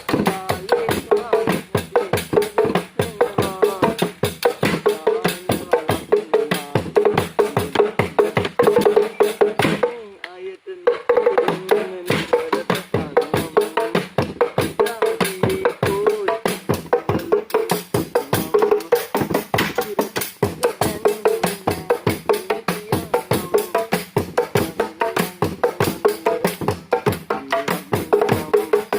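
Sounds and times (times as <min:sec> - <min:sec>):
fast percussion strokes: 0:00.0 - 0:10.1, 0:10.8 - 0:28.9.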